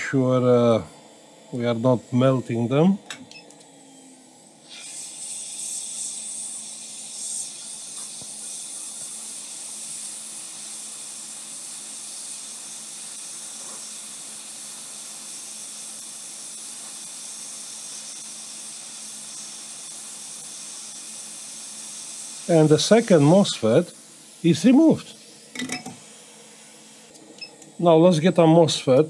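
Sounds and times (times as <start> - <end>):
hot air blower hissing: 0.0 - 29.0.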